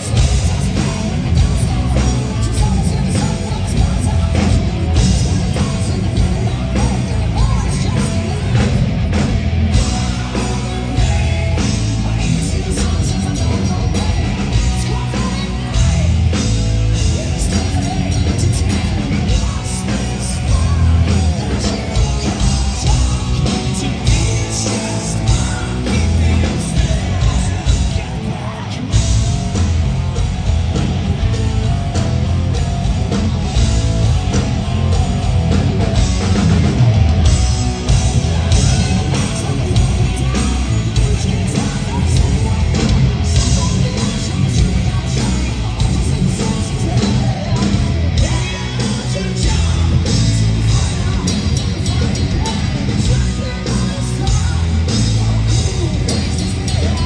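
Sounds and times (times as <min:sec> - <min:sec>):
man singing: 0:00.0 - 0:30.2, 0:34.3 - 0:57.0
distorted electric guitar: 0:00.0 - 0:57.0
driving drum beat: 0:00.0 - 0:57.0.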